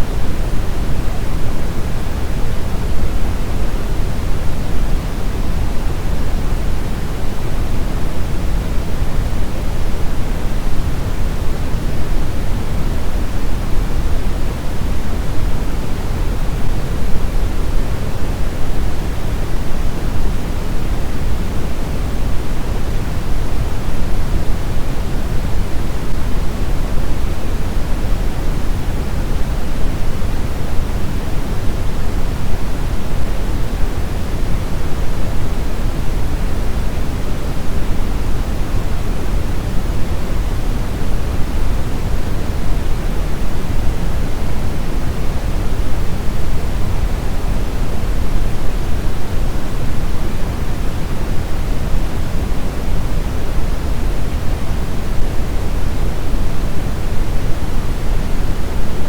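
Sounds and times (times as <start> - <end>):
brown noise rushing hiss: 0.0 - 59.0.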